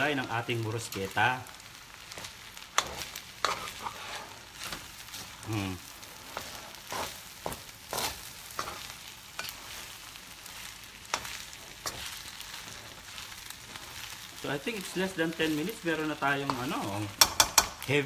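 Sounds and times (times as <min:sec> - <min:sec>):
rice sizzling in a pan: 0:00.0 - 0:18.0
metal spoon scraping a pan: 0:02.0 - 0:05.4, 0:06.0 - 0:10.2, 0:10.8 - 0:17.9.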